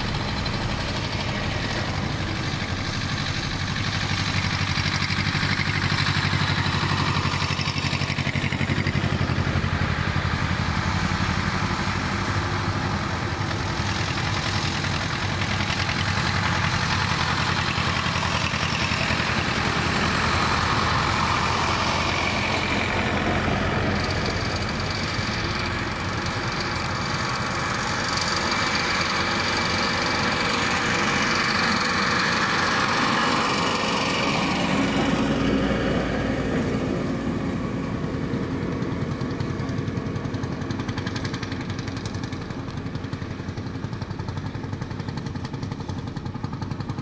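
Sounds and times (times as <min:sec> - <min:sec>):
tractor engines running: 0:00.0 - 0:47.0.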